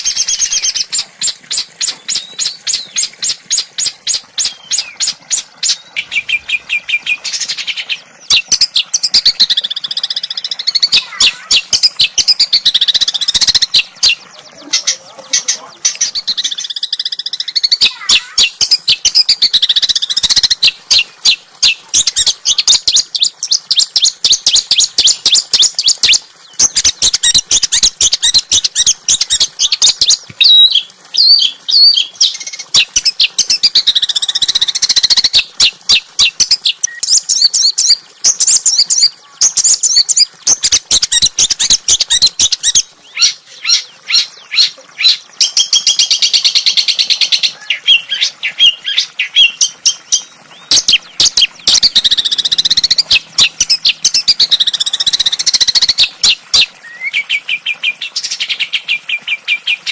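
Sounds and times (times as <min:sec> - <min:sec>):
songbird singing chips and trills: 0:00.0 - 0:59.9.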